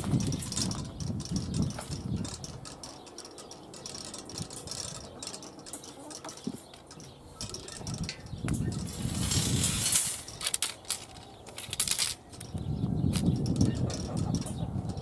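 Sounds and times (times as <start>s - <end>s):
wind buffeting on microphone: 0.0s - 5.2s, 7.0s - 15.0s.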